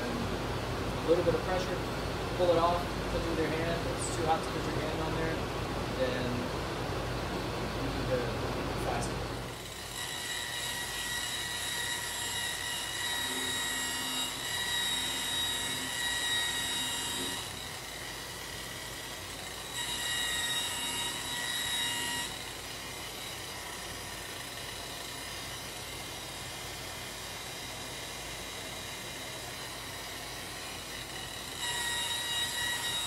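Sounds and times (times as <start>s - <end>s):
rotary buffer motor whine: 0.0s - 33.0s.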